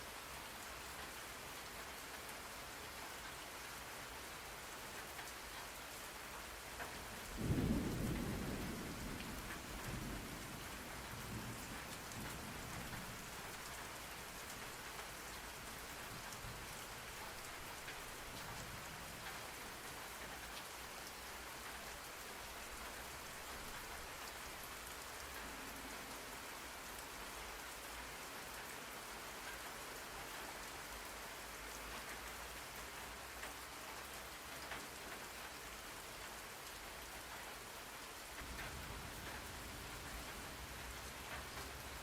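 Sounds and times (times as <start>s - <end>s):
rain pattering on a surface: 0.0s - 42.0s.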